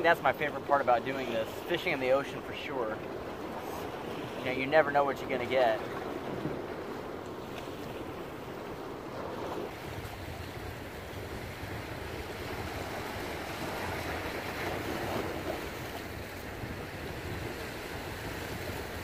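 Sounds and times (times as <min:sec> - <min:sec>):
surf washing on rocks: 0:00.0 - 0:19.0
wind buffeting microphone: 0:00.0 - 0:19.0.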